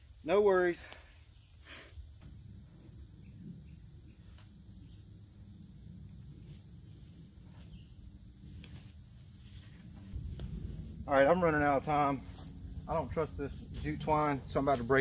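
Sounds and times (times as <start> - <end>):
high-pitched insect chorus: 0.0 - 15.0
low rumble: 2.2 - 15.0.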